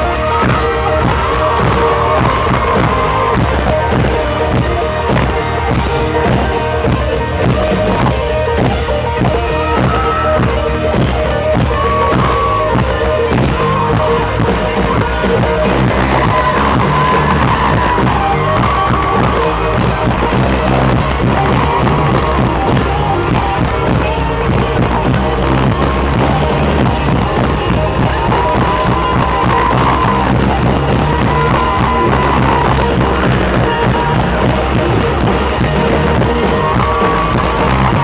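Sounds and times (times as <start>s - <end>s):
drum kit beat: 0.0s - 38.0s
electric guitars: 0.0s - 38.0s
live country-pop band: 0.0s - 38.0s.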